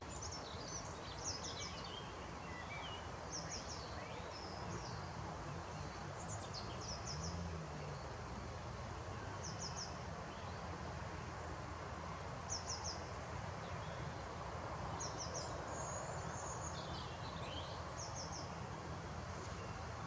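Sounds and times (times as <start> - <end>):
low rumble of outdoor background: 0.0 - 20.0
small songbirds singing: 0.0 - 20.0.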